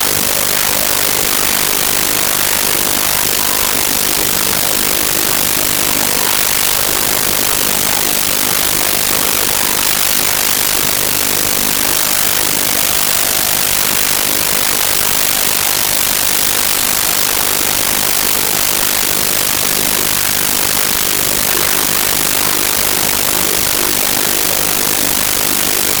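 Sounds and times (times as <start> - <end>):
loud static hiss: 0.0 - 26.0.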